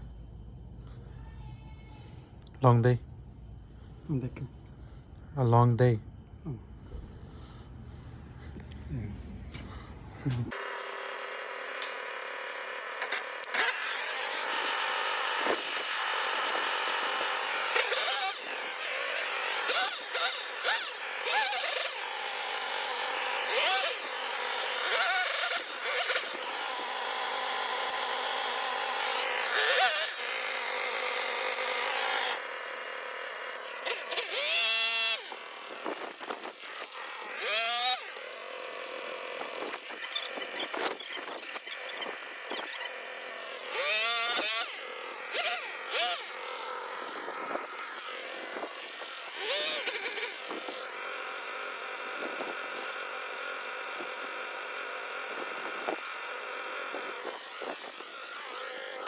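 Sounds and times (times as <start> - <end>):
chainsaw engine revving: 10.3 - 59.0.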